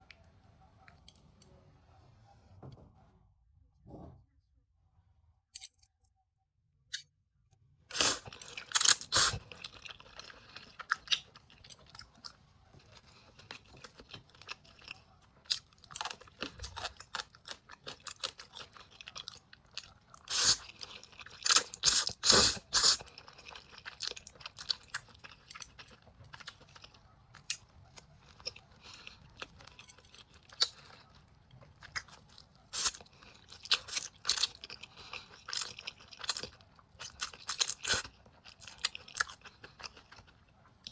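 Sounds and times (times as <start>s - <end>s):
wet chewing and mouth clicks: 7.9s - 40.9s.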